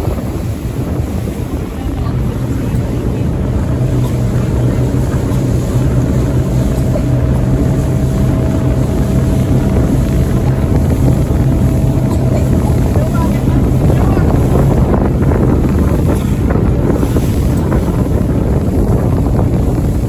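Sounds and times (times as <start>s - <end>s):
boat engine drone: 0.0s - 20.0s
rush of wind and water: 0.0s - 20.0s.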